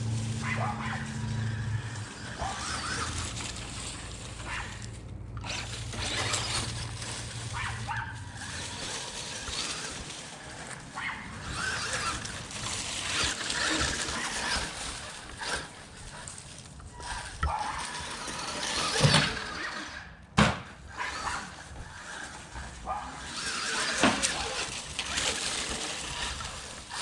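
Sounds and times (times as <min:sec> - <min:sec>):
electric toy truck driving: 0:00.0 - 0:27.0.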